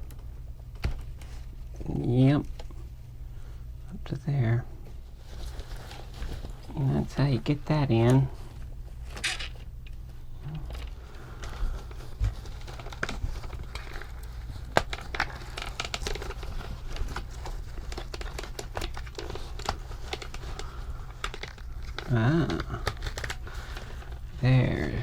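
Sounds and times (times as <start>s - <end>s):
low hum: 0.0s - 25.0s
fabric crinkling and rustling: 4.6s - 25.0s.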